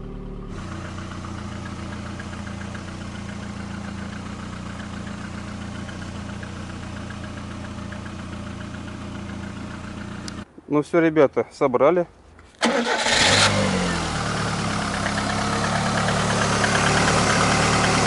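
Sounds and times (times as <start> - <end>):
car engine idling: 0.0 - 10.5, 12.6 - 18.0.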